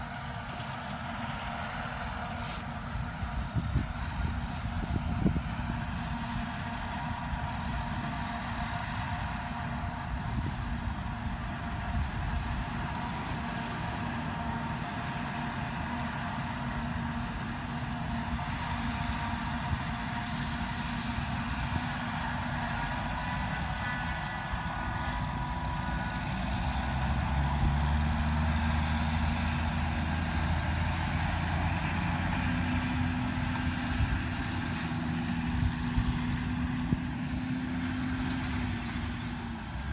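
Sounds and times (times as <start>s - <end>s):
forage harvester drone and whine: 0.0s - 39.9s
truck engine approaching: 0.0s - 39.9s.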